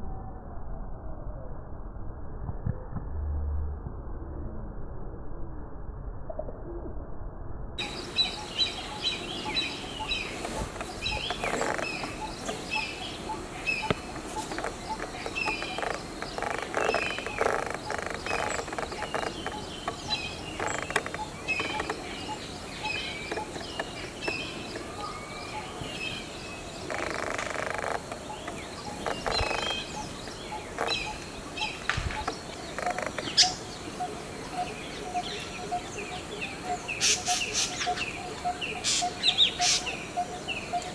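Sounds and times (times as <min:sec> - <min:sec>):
wild birds chirping: 0:07.8 - 0:40.9.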